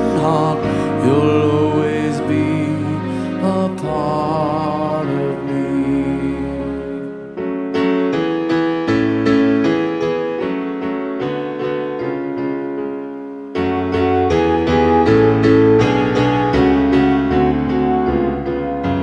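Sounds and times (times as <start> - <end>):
slow piano lullaby: 0.0 - 19.0.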